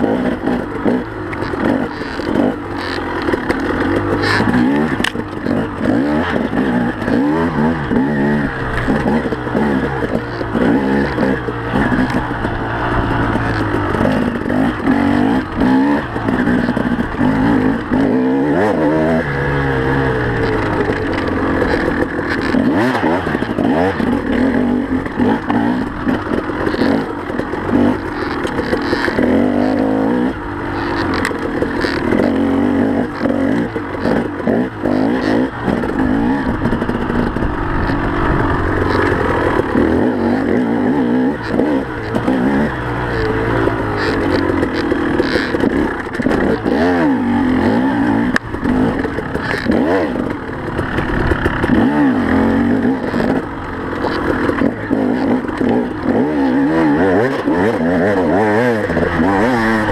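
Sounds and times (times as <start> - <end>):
bike knocks and rattles: 0.0 - 59.9
dirt bike engine revving: 0.0 - 59.9.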